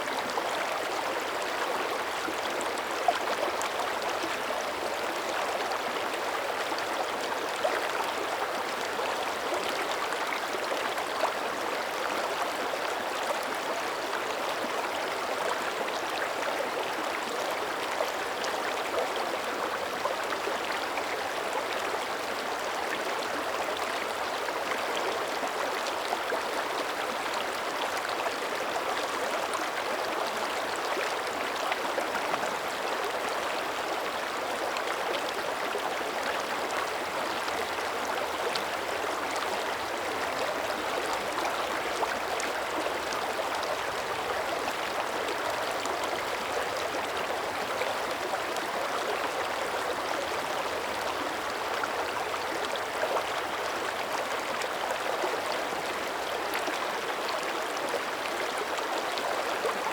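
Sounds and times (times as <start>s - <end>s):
creek running over rocks: 0.0s - 59.9s.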